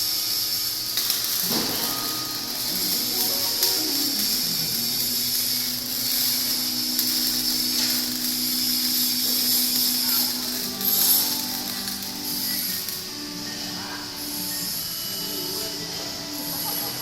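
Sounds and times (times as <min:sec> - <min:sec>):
machine hissing and humming: 0:00.0 - 0:17.0.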